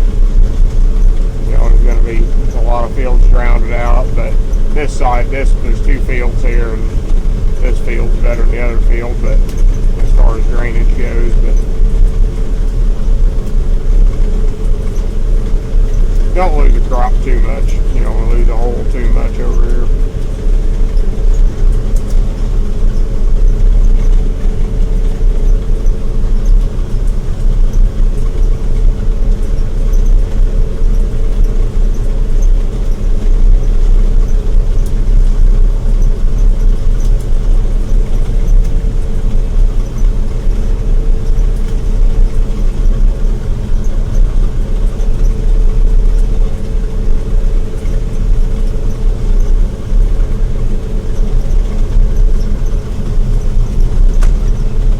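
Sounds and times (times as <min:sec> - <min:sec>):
combine harvester engine rumble: 0:00.0 - 0:54.9
steady hum: 0:00.0 - 0:54.9.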